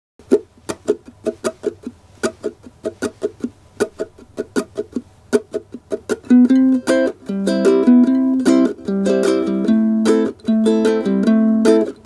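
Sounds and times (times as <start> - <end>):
ukulele muted percussive strokes: 0.2 - 12.0.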